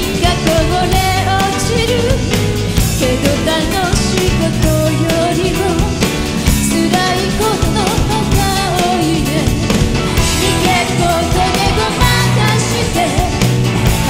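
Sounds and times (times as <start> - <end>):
woman singing into microphone: 0.0 - 9.8, 10.4 - 13.6
rock band playing: 0.0 - 14.0.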